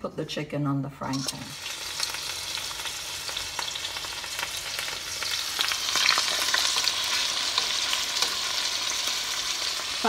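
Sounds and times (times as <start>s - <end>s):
chicken sizzling in a frying pan: 1.1s - 10.0s.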